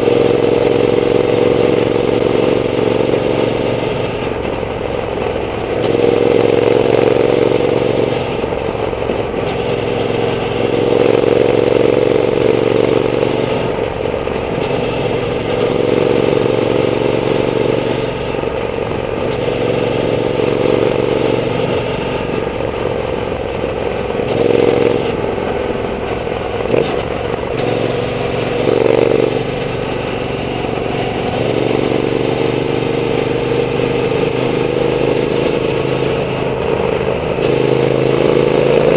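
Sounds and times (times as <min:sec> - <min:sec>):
motorcycle engine revving while riding: 0:00.0 - 0:38.9.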